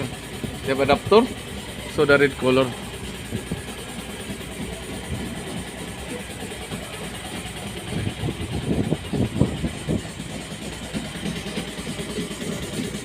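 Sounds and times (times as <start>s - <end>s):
motor running steadily: 0.0s - 13.0s.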